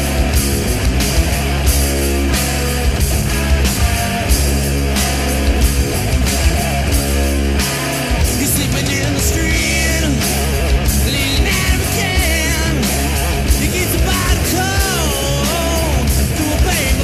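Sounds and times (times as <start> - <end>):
hard rock band playing: 0.0 - 17.0.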